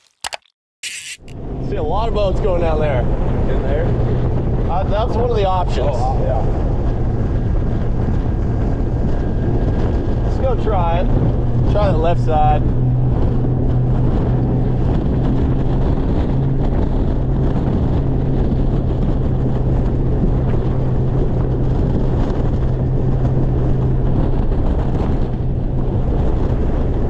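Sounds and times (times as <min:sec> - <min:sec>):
outboard motor droning: 0:01.3 - 0:27.0
wind on microphone: 0:01.4 - 0:27.0.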